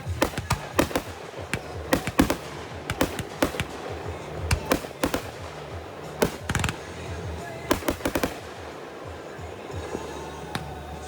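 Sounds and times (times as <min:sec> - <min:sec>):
fireworks bursting with sharp bangs: 0:00.0 - 0:11.0
music playing: 0:00.0 - 0:11.0.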